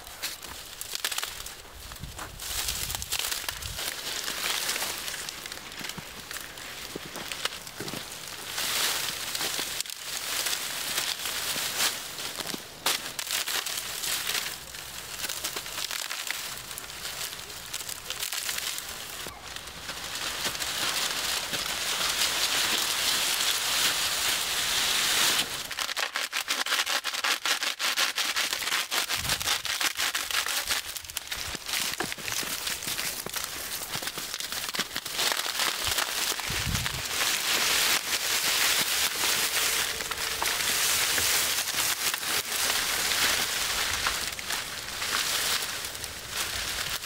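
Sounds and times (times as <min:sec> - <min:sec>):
dry reeds rustling and crackling: 0:00.0 - 0:47.0.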